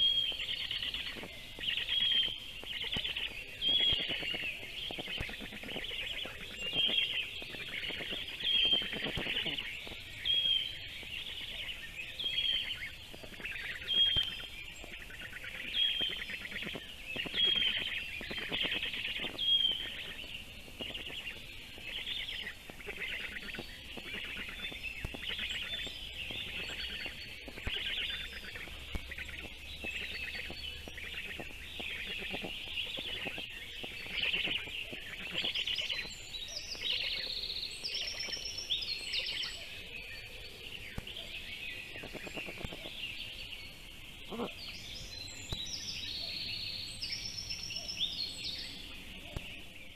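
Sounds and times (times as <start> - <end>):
birds chirping rapidly: 0.0 - 49.9.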